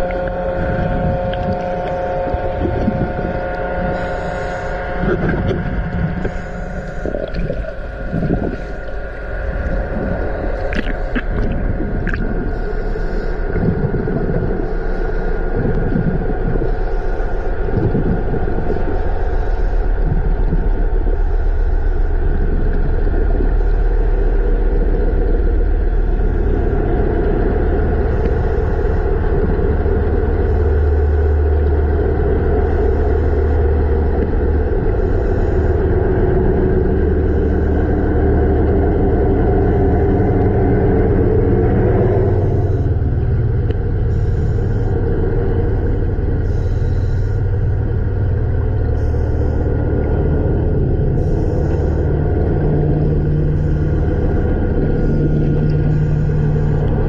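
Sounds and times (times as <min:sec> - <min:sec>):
underwater low rumble: 0:00.0 - 0:57.0.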